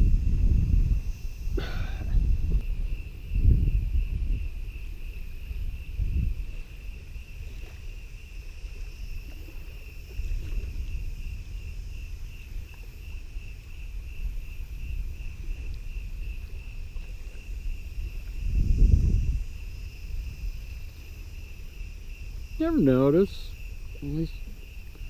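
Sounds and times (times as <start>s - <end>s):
crickets chirping: 0.0s - 25.0s
wind rumble on microphone: 0.0s - 25.0s.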